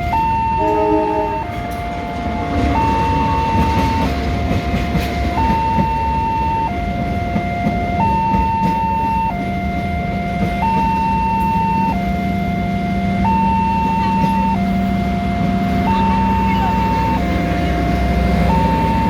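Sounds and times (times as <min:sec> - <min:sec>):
two-tone level crossing siren: 0:00.0 - 0:19.0.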